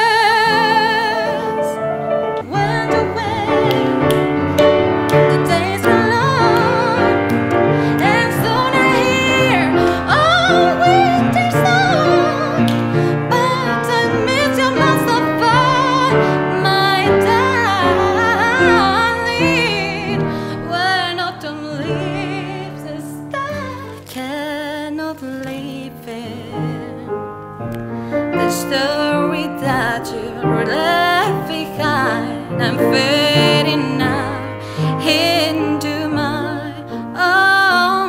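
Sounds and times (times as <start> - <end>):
soprano singing operatically: 0.0 - 27.1, 28.2 - 38.0
grand piano: 0.0 - 38.0.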